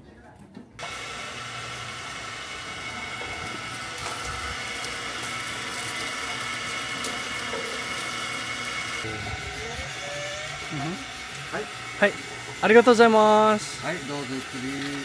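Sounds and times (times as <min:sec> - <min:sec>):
juicer motor hum: 0:00.8 - 0:15.0
steady whine: 0:00.8 - 0:15.0.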